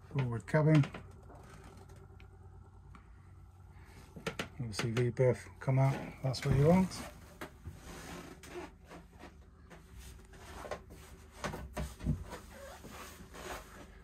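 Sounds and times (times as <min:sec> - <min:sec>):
knocks and thumps in a cabin: 0:00.0 - 0:02.2, 0:03.6 - 0:14.0.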